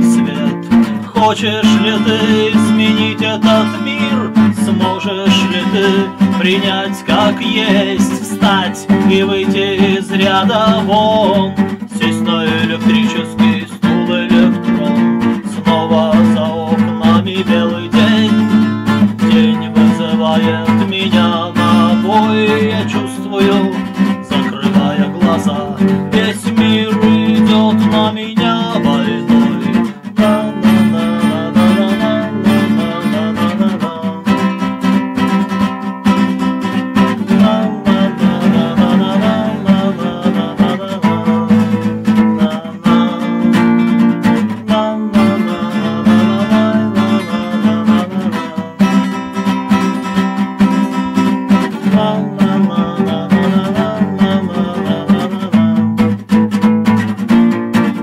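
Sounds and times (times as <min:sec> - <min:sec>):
acoustic guitar strummed and picked: 0:00.0 - 0:58.0.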